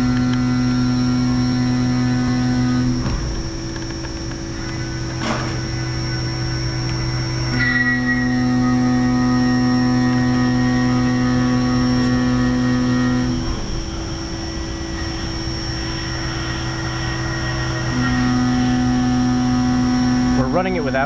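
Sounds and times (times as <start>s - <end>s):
milling machine cutting metal: 0.0s - 21.0s.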